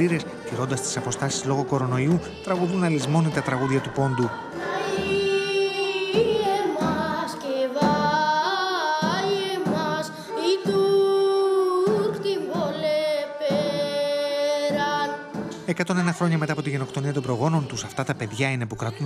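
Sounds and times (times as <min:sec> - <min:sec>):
drum beat: 0:00.0 - 0:18.6
boy singing: 0:00.7 - 0:18.2.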